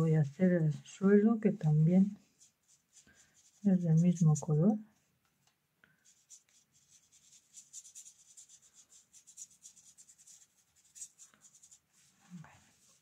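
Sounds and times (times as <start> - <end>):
brush stroking across paper: 0.2 - 4.8, 6.0 - 13.0.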